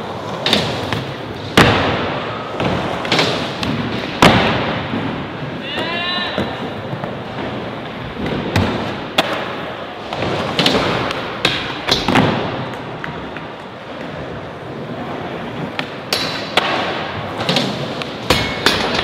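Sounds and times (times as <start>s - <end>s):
skateboard wheels rolling: 0.0s - 19.0s
skateboards popping and landing: 0.0s - 19.0s.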